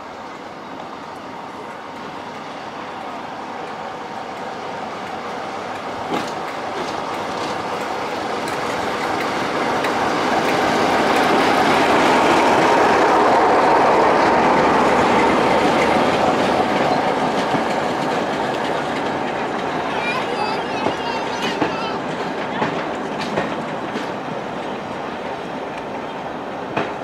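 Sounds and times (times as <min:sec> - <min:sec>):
diesel locomotive passing: 0:00.0 - 0:27.0.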